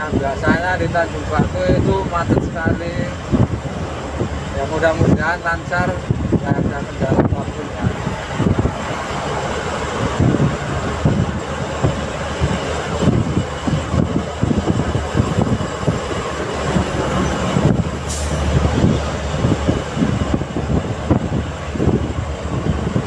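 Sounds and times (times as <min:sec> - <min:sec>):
truck engine and road rumble: 0:00.0 - 0:23.0.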